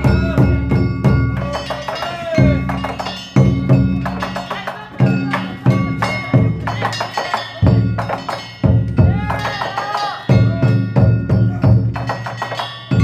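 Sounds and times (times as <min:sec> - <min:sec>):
big drum strokes: 0:00.0 - 0:13.0
small gongs clanging: 0:00.0 - 0:13.0.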